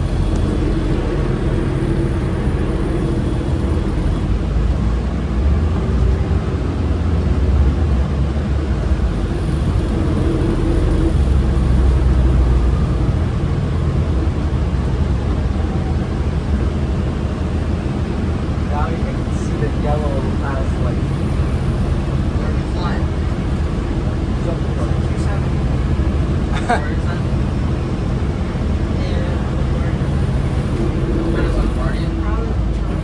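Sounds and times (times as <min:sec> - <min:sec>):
bus engine rumble: 0:00.0 - 0:33.0
road noise: 0:00.0 - 0:33.0.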